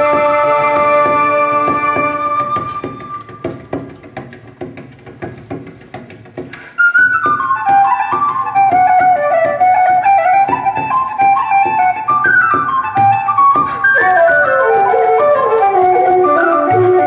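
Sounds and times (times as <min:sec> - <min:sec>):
flute melody: 0:00.0 - 0:03.8, 0:06.8 - 0:17.0.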